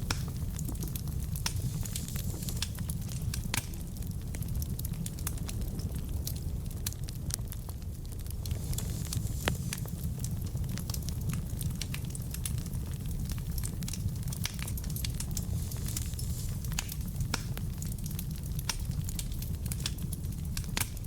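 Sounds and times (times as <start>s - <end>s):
fire flame rushing: 0.0s - 21.0s
wood crackling and popping: 0.0s - 21.0s.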